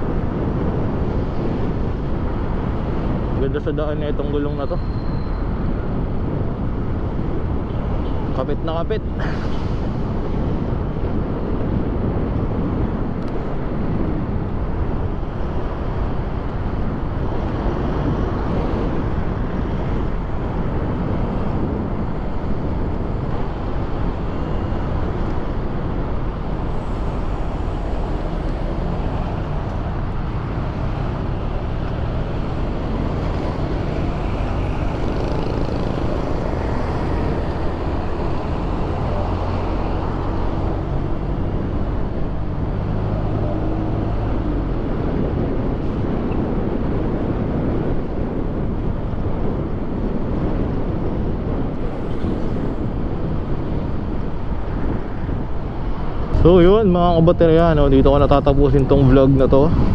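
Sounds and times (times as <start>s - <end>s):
scooter tyre road noise: 0.0s - 59.9s
wind noise: 0.0s - 59.9s.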